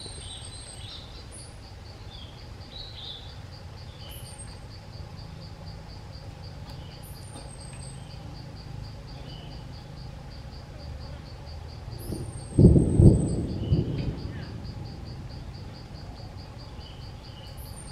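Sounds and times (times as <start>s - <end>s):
insects chirping in pulses: 0.0s - 17.9s.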